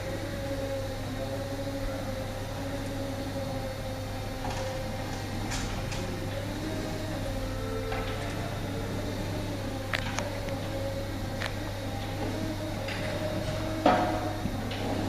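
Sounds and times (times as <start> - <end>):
forklift truck humming: 0.0 - 15.0.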